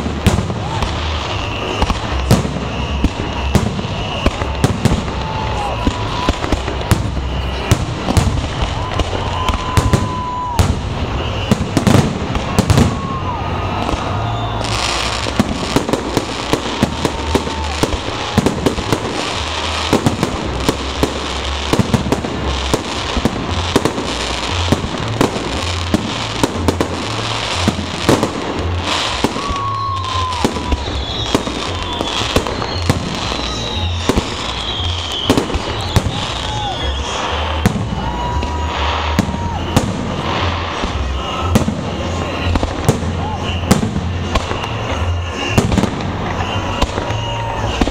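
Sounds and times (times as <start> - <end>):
fireworks bursting bangs: 0.0 - 47.9
fireworks hissing crackle: 0.0 - 47.9
fireworks whistles: 0.0 - 47.9.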